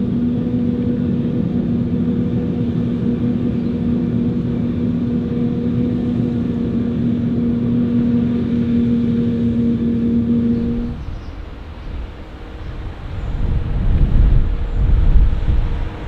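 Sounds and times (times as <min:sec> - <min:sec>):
diesel machinery droning: 0:00.0 - 0:16.0.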